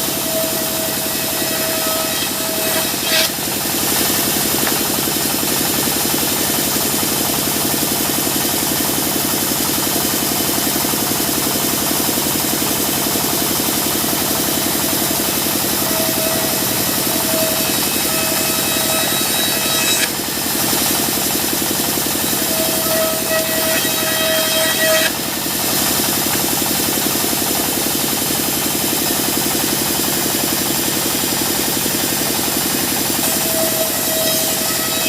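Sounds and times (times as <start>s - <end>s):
sawmill engine running: 0.0s - 34.8s.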